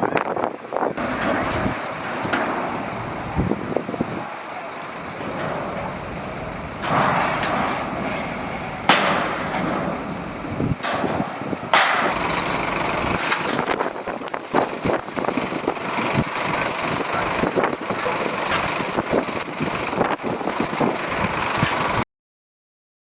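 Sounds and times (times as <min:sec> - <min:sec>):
strong gusting wind: 0:00.0 - 0:22.0
wind buffeting microphone: 0:00.0 - 0:22.0.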